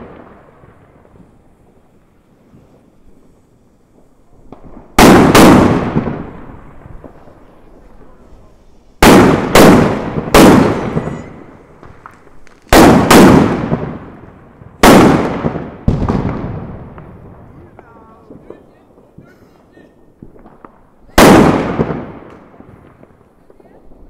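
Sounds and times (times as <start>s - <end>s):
loud firework bangs: 0.0s - 24.0s.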